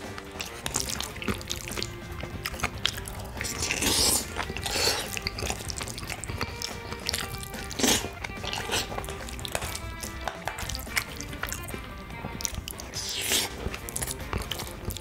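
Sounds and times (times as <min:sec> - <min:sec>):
person chewing food: 0:00.0 - 0:15.0
soft background music: 0:00.0 - 0:15.0.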